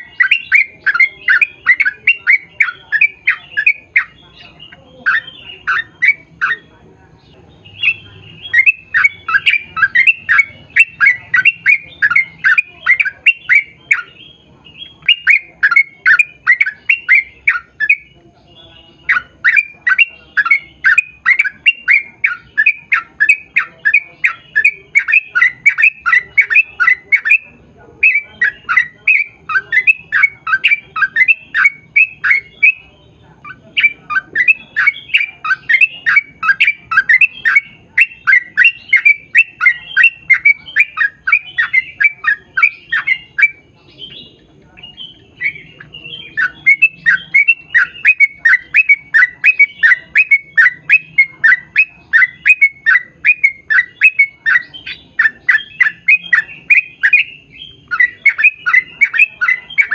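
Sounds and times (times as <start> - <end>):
bird chattering calls: 0.0 - 59.9.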